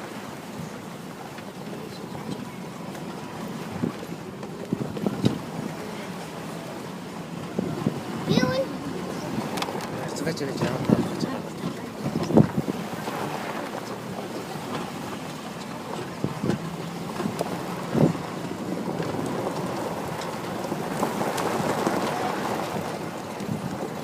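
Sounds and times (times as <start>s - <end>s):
wind on microphone: 1.9s - 24.0s.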